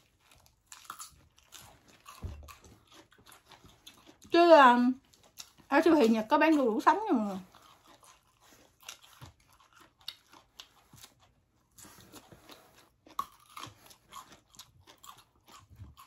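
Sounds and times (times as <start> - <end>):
people chewing crunchy food: 0.0 - 16.0.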